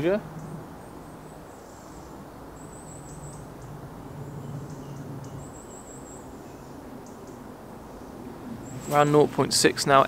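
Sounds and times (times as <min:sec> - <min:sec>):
small bird singing: 0:00.0 - 0:09.3.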